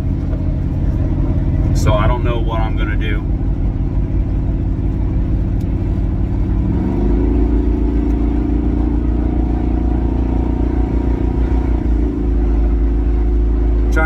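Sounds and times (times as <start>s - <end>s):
road noise inside cab: 0.0s - 14.0s
truck engine accelerating: 0.0s - 14.0s.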